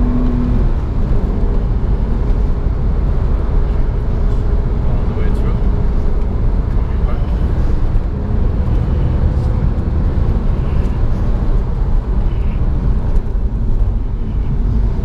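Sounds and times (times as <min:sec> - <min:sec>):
car engine running under load: 0:00.0 - 0:15.0
road noise: 0:00.0 - 0:15.0.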